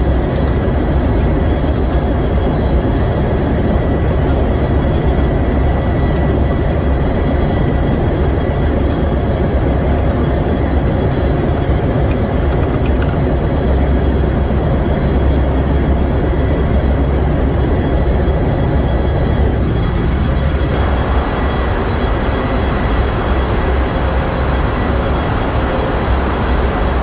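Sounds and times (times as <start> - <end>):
diesel generator engine rumbling: 0.0 - 27.0.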